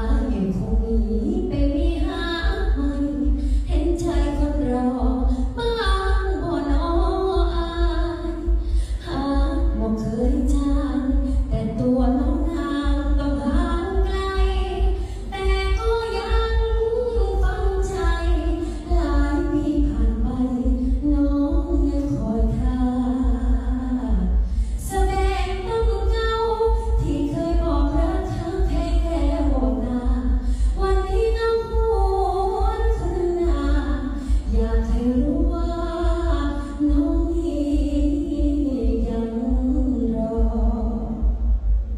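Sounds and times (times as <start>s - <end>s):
woman singing: 0.0s - 41.6s.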